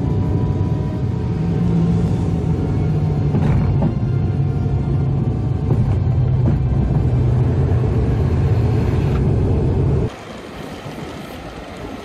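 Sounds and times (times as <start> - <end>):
outdoor noise: 0.0 - 12.0
propeller engines droning: 0.0 - 12.0
runway rumble: 0.0 - 12.0.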